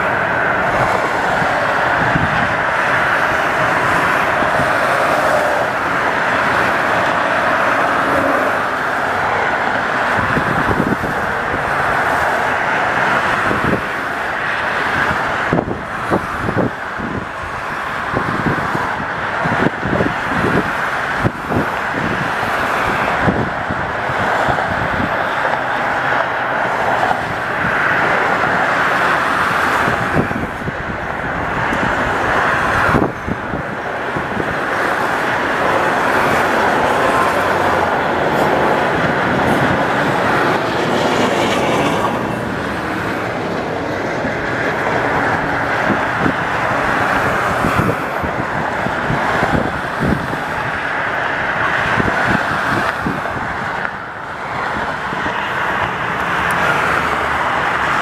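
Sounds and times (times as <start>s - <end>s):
expressway traffic rushing: 0.0s - 58.0s.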